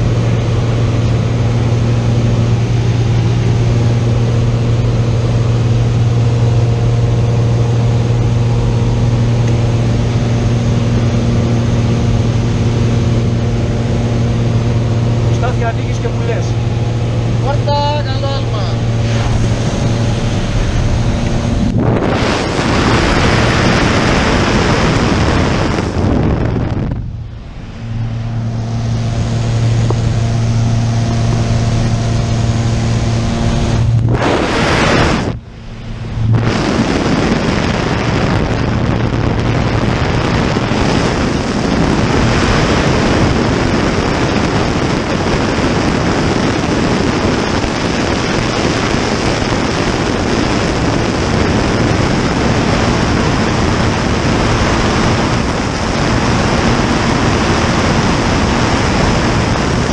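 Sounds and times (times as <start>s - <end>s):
plane engine drone: 0.0s - 59.9s
wind buffeting microphone: 0.0s - 59.9s.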